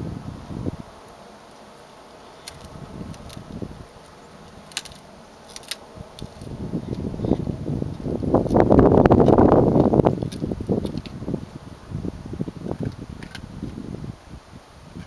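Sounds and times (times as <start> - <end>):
wind buffeting microphone: 0.0 - 1.0, 2.4 - 15.0.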